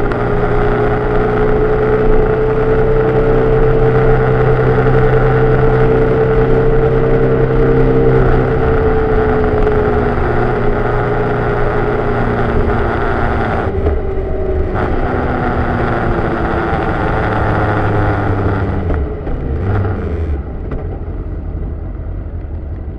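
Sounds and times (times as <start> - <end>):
road noise: 0.0 - 22.9
vehicle engine: 0.0 - 22.9.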